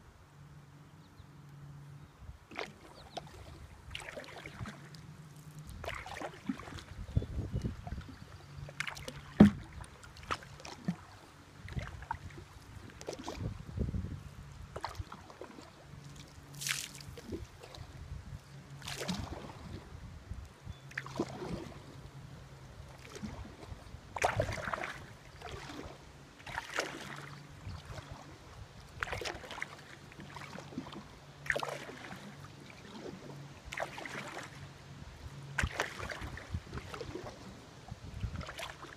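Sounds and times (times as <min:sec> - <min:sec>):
kayak paddle splashing: 0:02.4 - 0:38.9.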